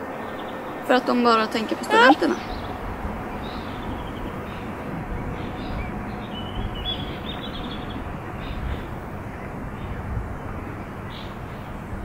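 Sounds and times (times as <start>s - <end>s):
small birds chirping: 0.0s - 10.2s
low rushing noise: 0.0s - 12.0s.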